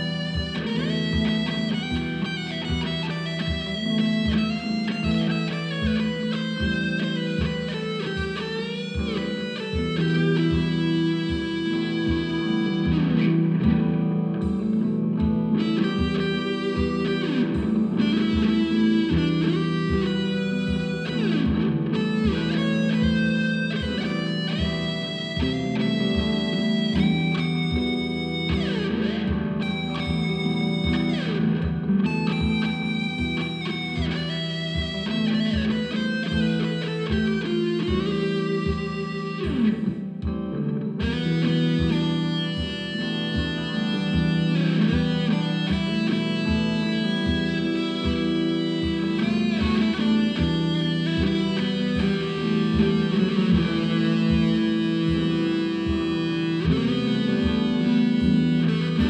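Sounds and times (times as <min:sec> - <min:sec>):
electric guitar with bent notes: 0:00.0 - 0:59.0
steady beat: 0:00.0 - 0:59.0.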